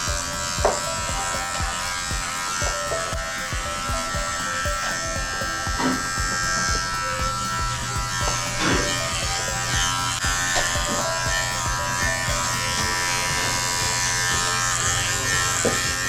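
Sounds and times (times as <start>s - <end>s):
electric dog clippers running: 0.0s - 16.0s.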